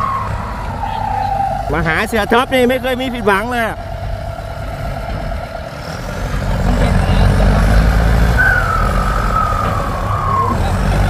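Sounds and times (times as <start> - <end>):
high whine sliding down in pitch: 0.0 - 6.0, 7.8 - 11.0
excavator working: 0.0 - 11.0
tractor diesel engine under load: 0.0 - 11.0.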